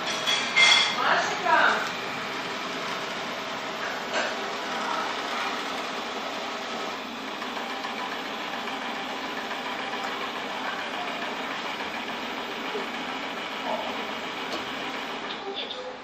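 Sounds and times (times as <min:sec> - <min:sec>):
robot vacuum whirring: 0:01.3 - 0:15.4.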